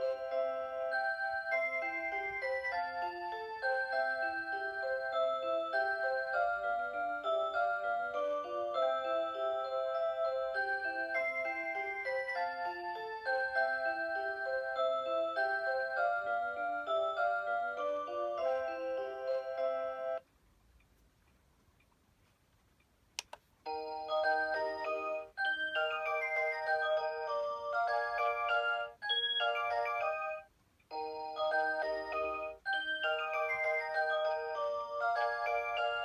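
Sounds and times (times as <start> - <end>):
alarm clock electronic melody: 0.0 - 20.3, 23.7 - 36.0.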